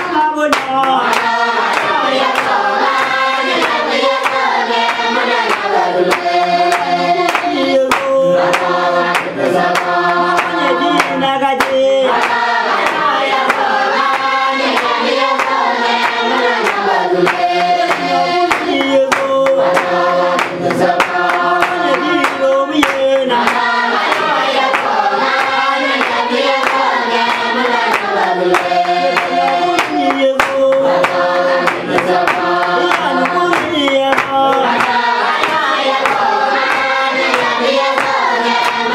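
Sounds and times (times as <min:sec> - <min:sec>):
group singing in chorus: 0:00.0 - 0:38.9
rhythmic hand clapping: 0:00.0 - 0:38.9.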